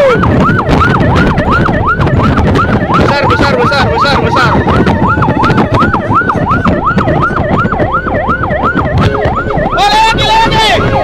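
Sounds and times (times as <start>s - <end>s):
fire engine siren yelping: 0.0s - 11.0s
low rumble of moving truck: 0.0s - 11.0s.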